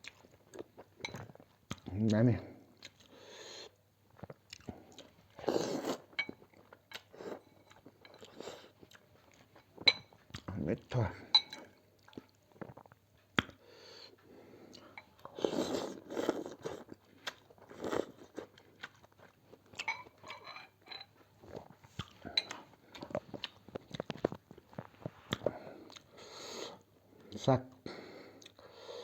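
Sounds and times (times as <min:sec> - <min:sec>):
person chewing noodle soup: 0:00.0 - 0:01.9, 0:02.5 - 0:29.0.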